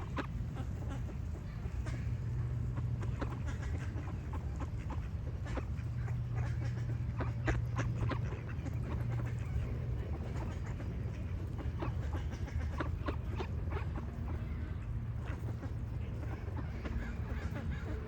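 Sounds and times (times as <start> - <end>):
bird calls: 0.0 - 18.0
ducks quacking: 0.0 - 18.0
steady low hum: 0.0 - 18.0.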